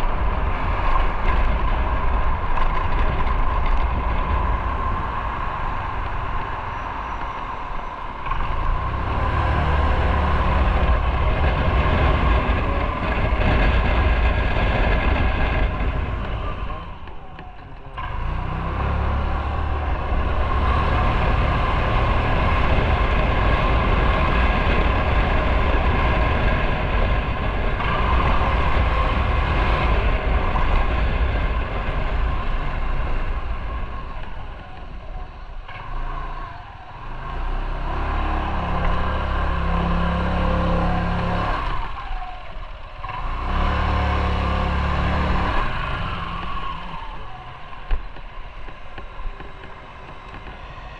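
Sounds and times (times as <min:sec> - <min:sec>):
wind and road noise: 0:00.0 - 0:50.9
motorcycle engine running: 0:08.2 - 0:50.9.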